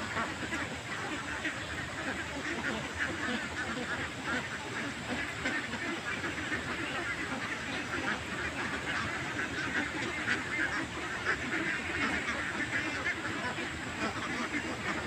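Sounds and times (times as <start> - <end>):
flock of birds calling: 0.0 - 15.0.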